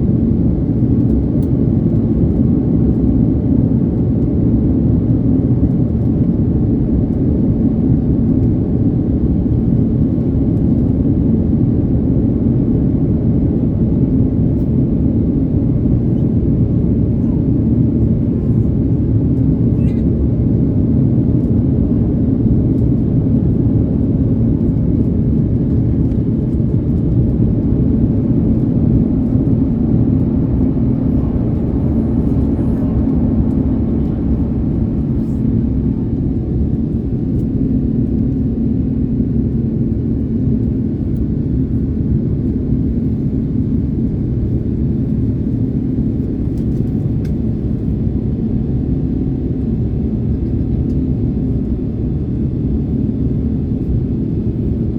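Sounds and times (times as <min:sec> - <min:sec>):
airplane engines rumbling in cabin: 0:00.0 - 0:54.9.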